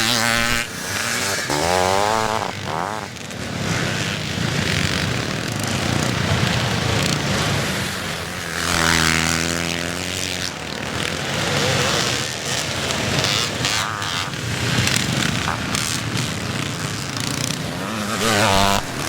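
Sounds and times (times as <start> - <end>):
motocross bikes racing: 0.0 - 19.0
motorbike passing close: 0.0 - 19.0.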